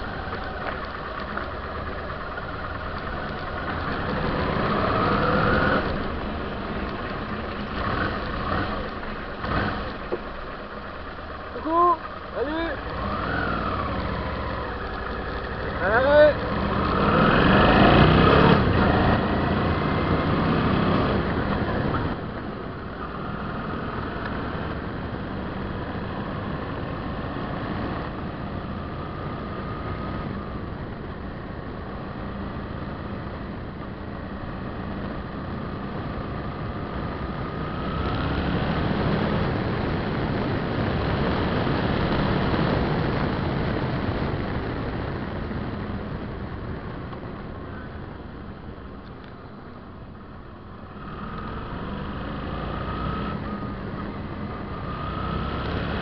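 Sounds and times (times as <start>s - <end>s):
motorcycle engine running: 0.0s - 48.5s.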